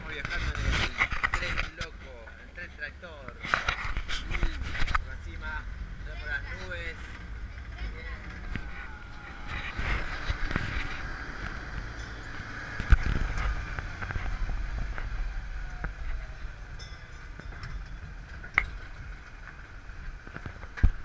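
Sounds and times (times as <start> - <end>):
tractor engine running: 3.4 - 21.0.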